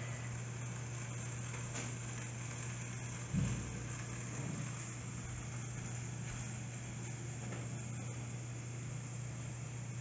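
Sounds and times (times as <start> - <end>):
background hiss: 0.0 - 10.0
steady low hum: 0.0 - 10.0.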